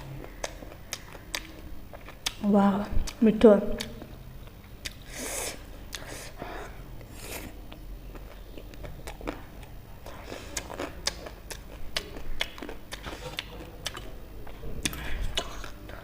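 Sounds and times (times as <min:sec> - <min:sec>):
person chewing food: 0:00.0 - 0:02.4, 0:03.8 - 0:16.0.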